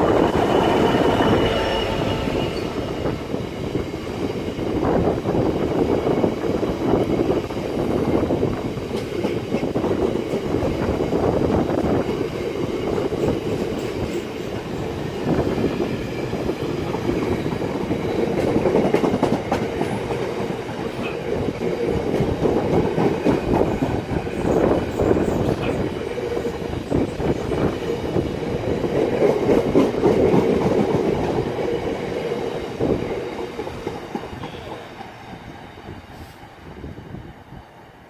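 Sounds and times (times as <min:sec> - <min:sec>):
freight train rumbling past: 0:00.0 - 0:38.0.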